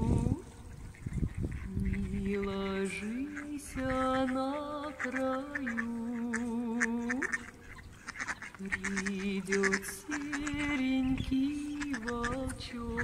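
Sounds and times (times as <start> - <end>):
person singing a lullaby: 0.0 - 0.5, 1.8 - 7.4, 8.6 - 13.0
ducks quacking: 0.2 - 13.0.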